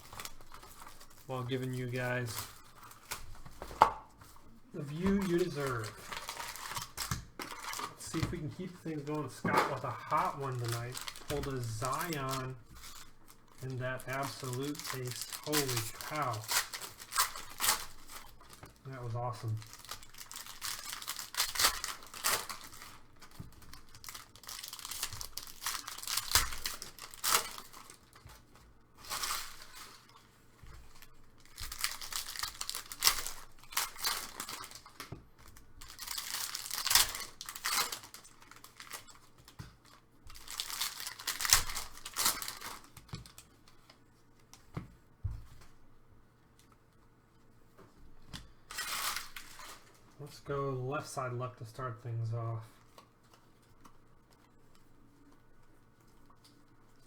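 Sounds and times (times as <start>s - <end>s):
card wrappers tearing and crinkling: 0.0s - 44.5s, 48.7s - 50.0s.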